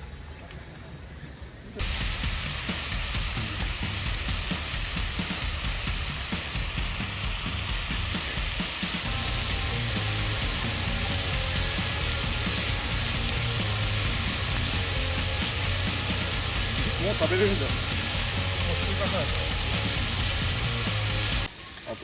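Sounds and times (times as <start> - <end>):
pork sizzling: 1.8 - 22.0.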